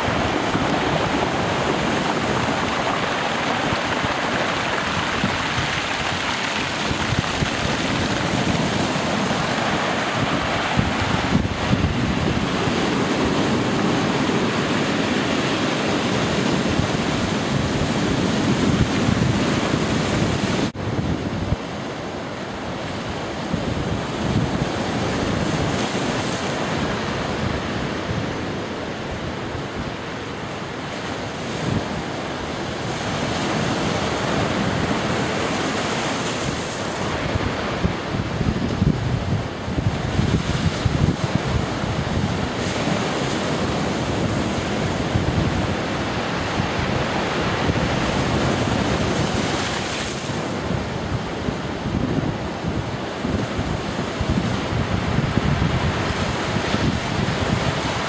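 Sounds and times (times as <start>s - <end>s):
heavy surf breaking on shore: 0.0s - 58.0s
wind buffeting microphone: 0.0s - 58.0s.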